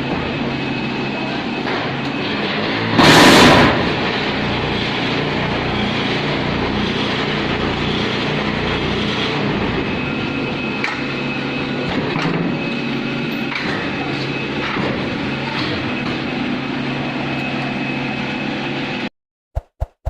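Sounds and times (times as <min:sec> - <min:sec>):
machine mechanical drone: 0:00.0 - 0:19.1.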